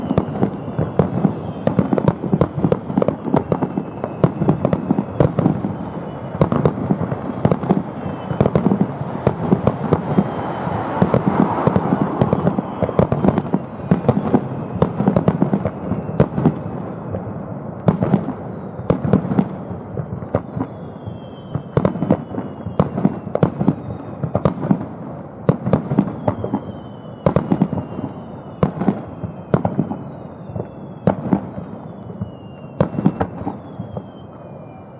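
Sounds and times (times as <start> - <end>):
distant firework bursts and crackling: 0.0 - 34.9
whistling firework shells: 0.0 - 34.9.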